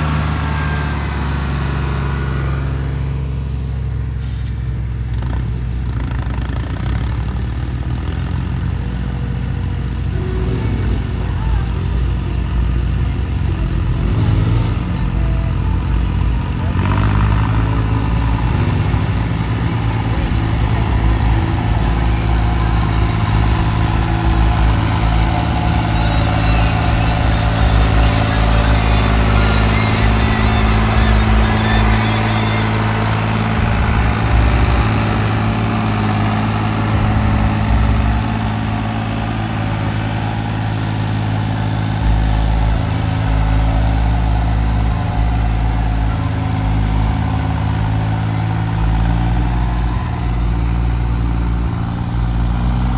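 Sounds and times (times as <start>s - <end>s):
vehicle engine idling: 0.0s - 52.9s.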